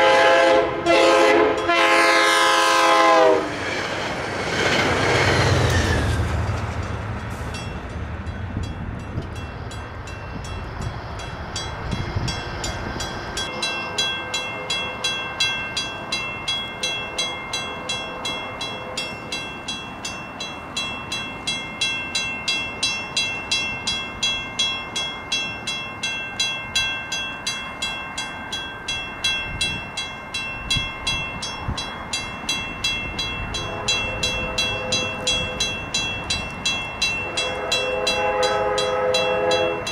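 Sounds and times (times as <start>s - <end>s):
railroad crossing bell ringing: 0.0s - 3.5s, 4.6s - 39.9s
passing train rumbling: 0.0s - 39.9s.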